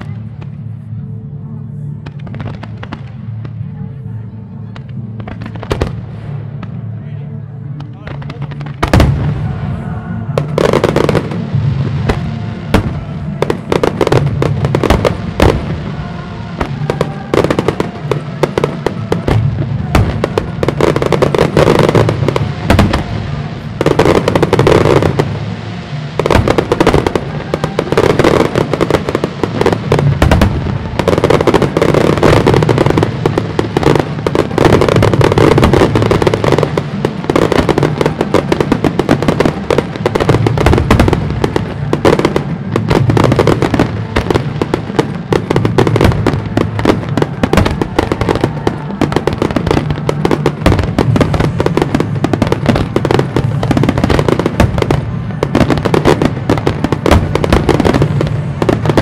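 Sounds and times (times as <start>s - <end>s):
fireworks bangs and crackle: 0.0s - 59.0s.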